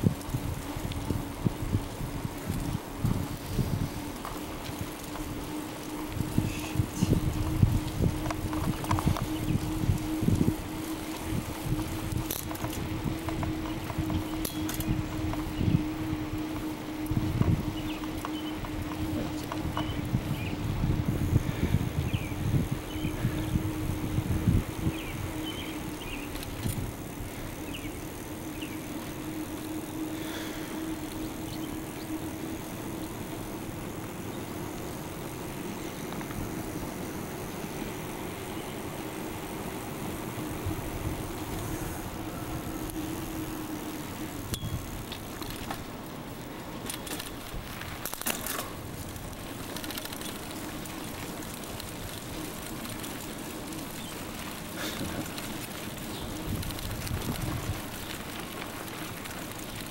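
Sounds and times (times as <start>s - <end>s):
bicycle rolling and rattling: 0.0s - 59.9s
low hum: 0.0s - 59.9s.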